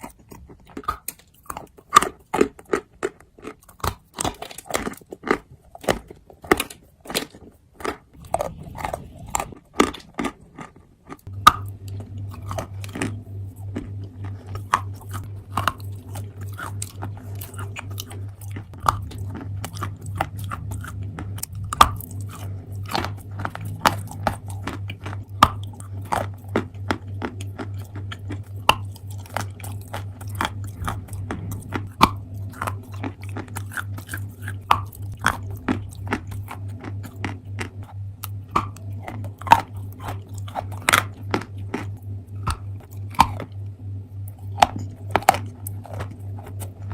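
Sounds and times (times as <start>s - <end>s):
crunching and chewing earth: 0.0s - 46.9s
steady low hum: 0.0s - 46.9s.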